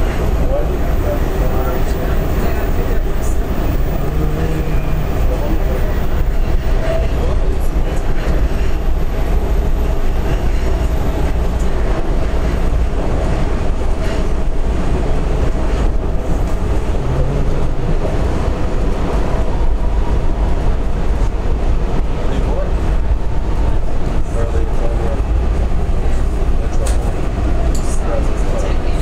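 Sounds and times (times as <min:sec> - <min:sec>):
rumble of train wheels on rail: 0:00.0 - 0:29.0.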